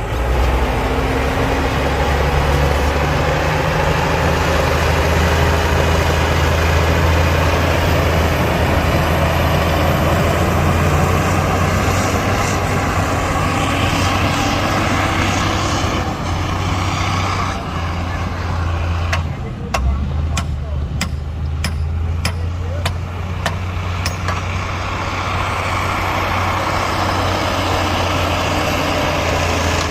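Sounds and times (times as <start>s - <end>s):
heavy diesel machinery engine: 0.0s - 29.9s.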